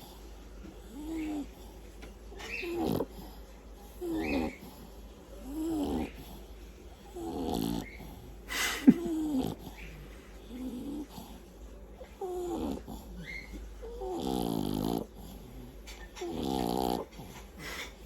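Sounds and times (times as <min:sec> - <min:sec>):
dog snoring: 0:00.0 - 0:18.0.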